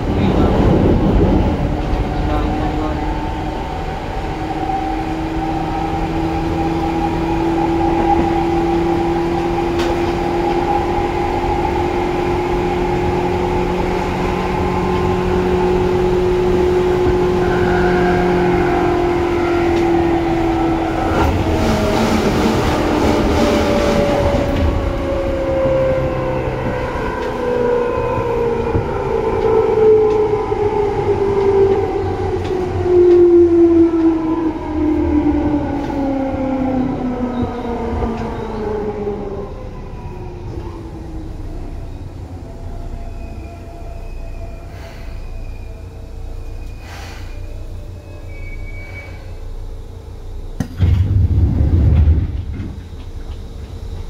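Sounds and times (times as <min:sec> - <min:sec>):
train running gear rumble: 0:00.0 - 0:54.0
electric train motors whining: 0:01.2 - 0:54.0.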